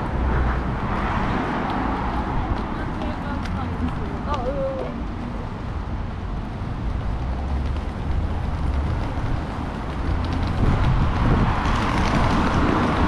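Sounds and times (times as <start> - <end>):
street noise hiss on wet roads: 0.0 - 13.0
vehicle low rumble: 0.0 - 13.0.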